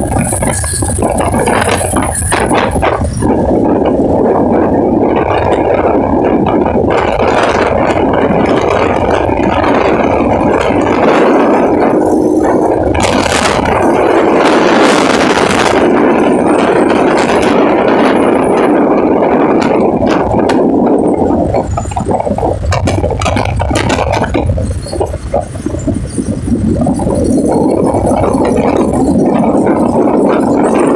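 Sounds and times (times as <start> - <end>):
strong wind blowing: 0.0 - 30.9.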